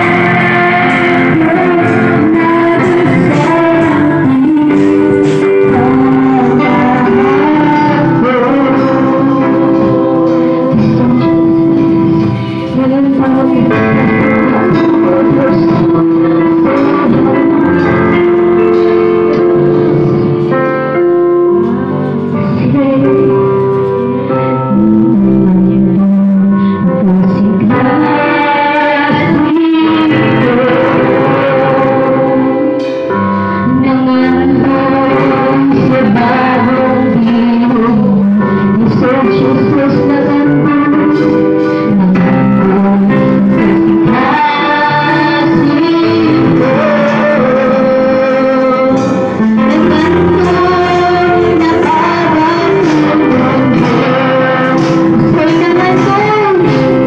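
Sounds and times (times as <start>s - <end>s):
women singing through microphones: 0.0s - 20.5s, 21.5s - 57.0s
acoustic guitar: 0.0s - 57.0s.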